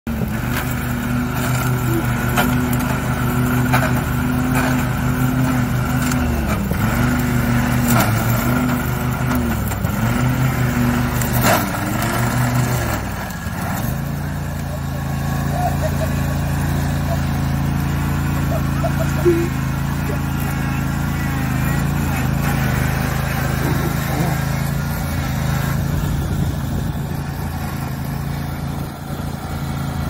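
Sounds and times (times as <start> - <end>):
lawn mower engine under load: 0.0 - 30.0.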